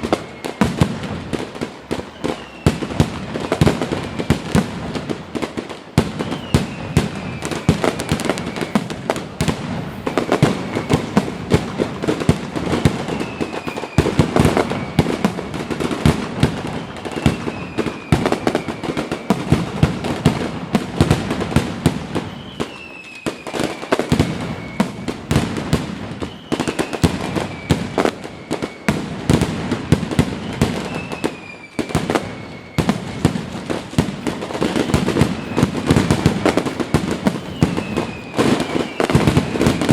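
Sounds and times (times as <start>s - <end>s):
firework falling whistle: 0.0s - 39.9s
fireworks bangs and crackling: 0.0s - 39.9s.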